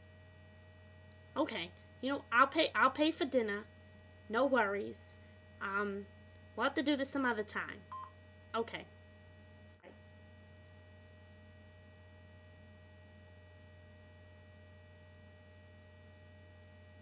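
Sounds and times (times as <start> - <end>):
faint high whine: 0.0 - 17.0
low electrical hum: 0.0 - 17.0.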